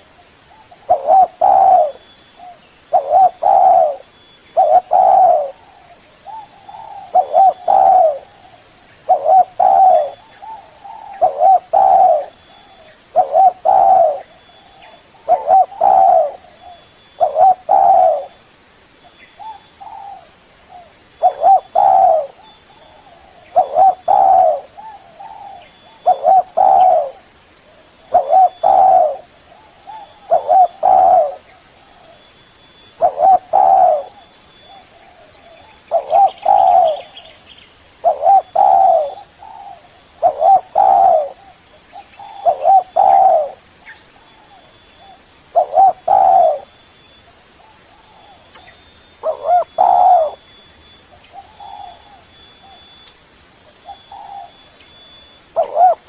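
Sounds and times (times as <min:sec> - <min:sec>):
dove cooing: 0:00.0 - 0:18.4, 0:19.4 - 0:37.4, 0:38.0 - 0:53.0, 0:53.7 - 0:56.0.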